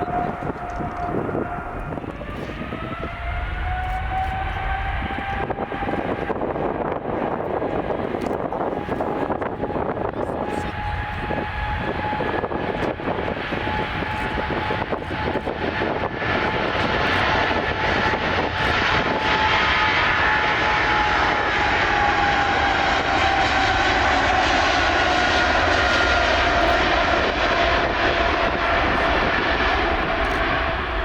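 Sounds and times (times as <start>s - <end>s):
airliner engines roaring: 0.0s - 31.0s
high whining engine tones: 0.0s - 31.0s.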